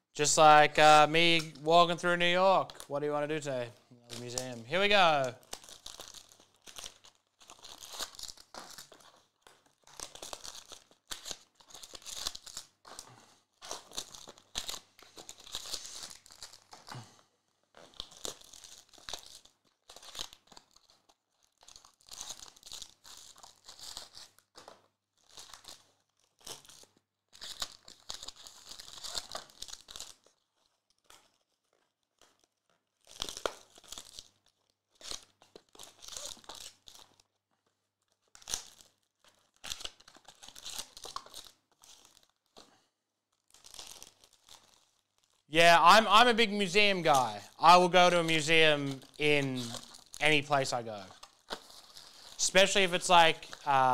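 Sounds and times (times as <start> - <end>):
wrappers tearing and crinkling: 4.0 - 45.5, 46.1 - 53.9.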